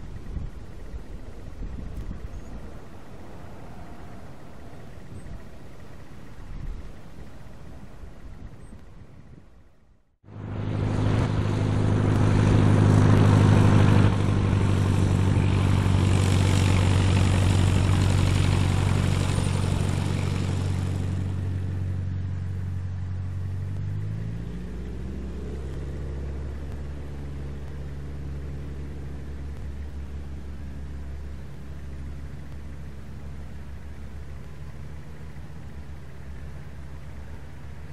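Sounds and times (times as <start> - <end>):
airplane engine and propeller: 0.0 - 37.9.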